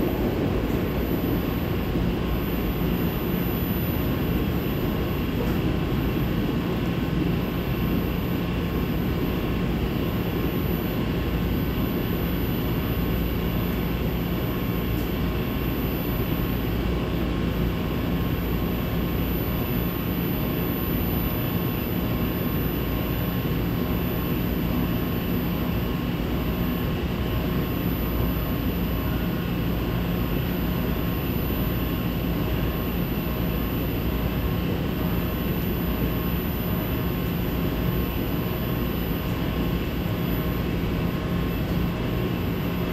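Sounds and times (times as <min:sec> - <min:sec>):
subway train equipment humming: 0:00.0 - 0:42.9.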